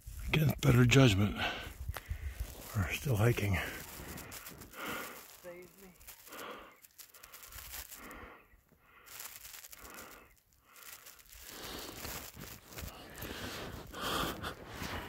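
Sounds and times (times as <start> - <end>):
person breathing heavily: 1.3 - 2.8, 3.4 - 5.4, 6.0 - 15.0.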